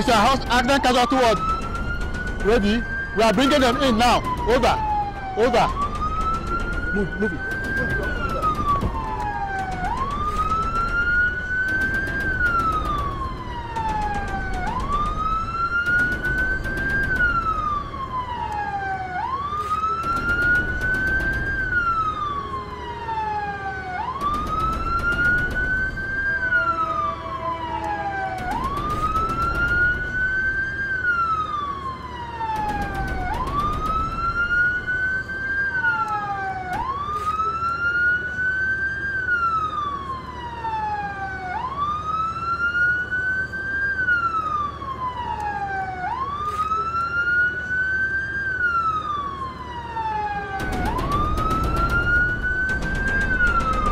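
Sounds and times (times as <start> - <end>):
ambulance siren wailing: 0.0 - 53.9.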